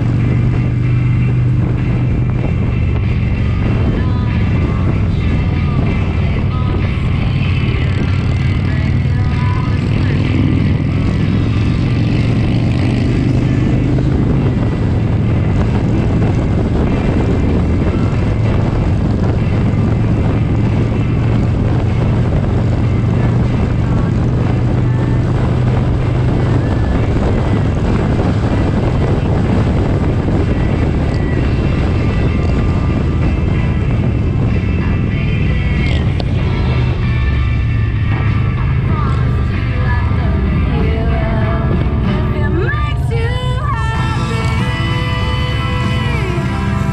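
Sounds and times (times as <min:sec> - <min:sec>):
motorcycle engine cruising: 0:00.0 - 0:46.9
wind rush on microphone: 0:00.0 - 0:46.9.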